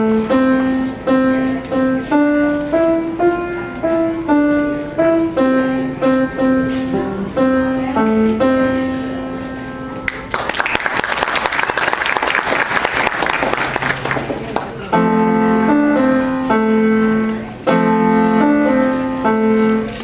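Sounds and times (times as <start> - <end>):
grand piano melody: 0.0 - 10.4, 13.1 - 20.0.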